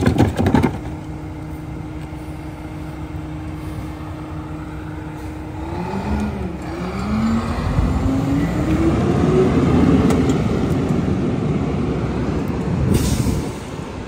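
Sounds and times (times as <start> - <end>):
truck diesel engine revving: 1.6 - 14.0.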